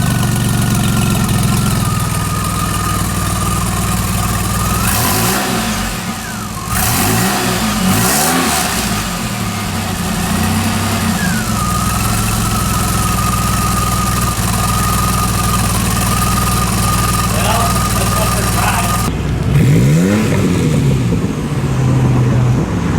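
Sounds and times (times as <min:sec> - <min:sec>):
car engine revving and idling: 0:00.0 - 0:22.9.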